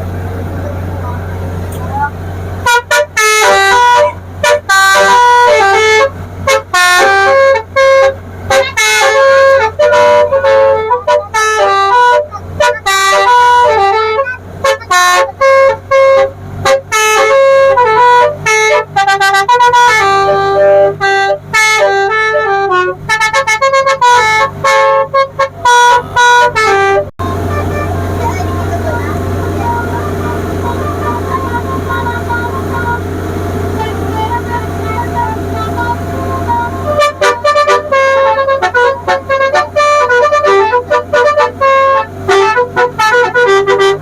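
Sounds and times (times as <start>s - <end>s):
steady low hum: 0.0s - 44.0s
multi-tone musical horn melody: 2.6s - 33.1s, 33.7s - 44.0s.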